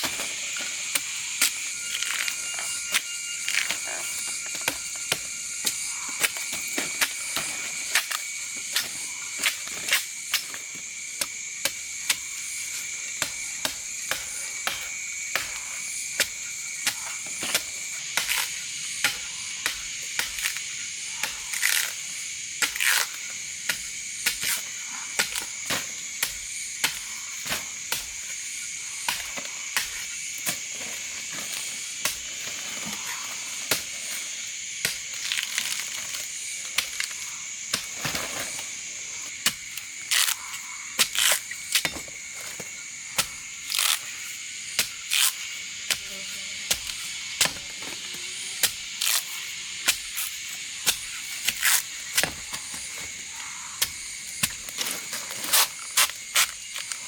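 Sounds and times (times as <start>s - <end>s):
forest insects droning: 0.0s - 57.0s.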